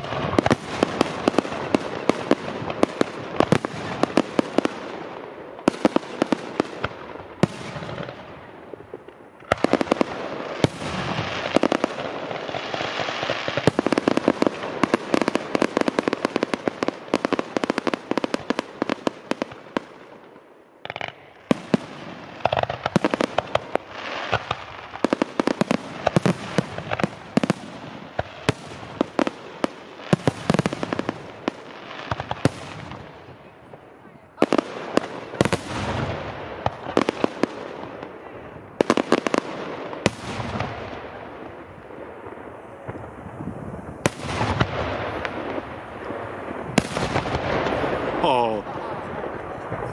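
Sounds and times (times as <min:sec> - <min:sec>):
firecracker crackling: 0:00.0 - 0:49.9
firework bangs: 0:00.0 - 0:49.9.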